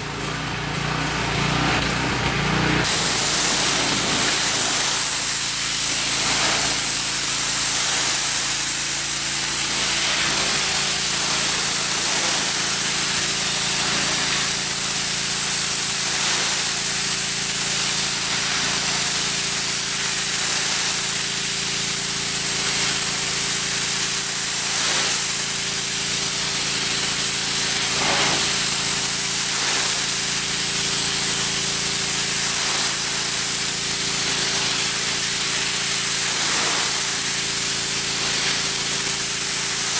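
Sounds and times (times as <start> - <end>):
pressure washer machine hum: 0.0 - 39.9
pressure washer water jet hissing: 0.0 - 39.9.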